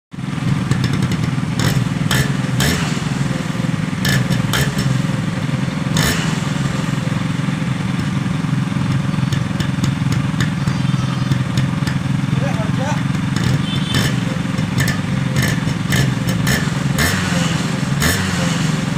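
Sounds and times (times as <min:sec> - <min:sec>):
two-stroke engine idling: 0:00.2 - 0:18.9.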